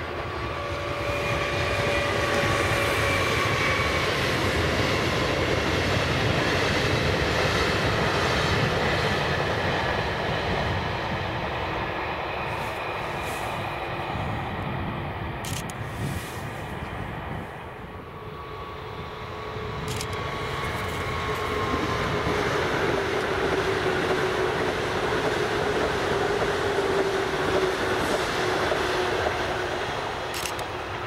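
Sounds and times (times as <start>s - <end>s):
electric train passing: 0.0s - 31.0s
steady train whine: 0.0s - 31.0s.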